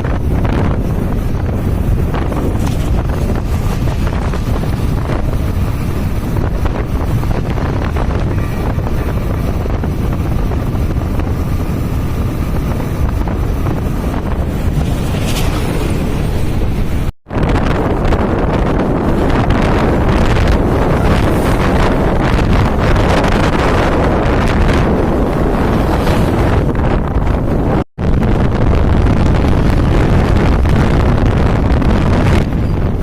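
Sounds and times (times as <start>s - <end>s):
vehicle running noise: 0.0s - 33.0s
wind buffeting microphone: 0.0s - 33.0s.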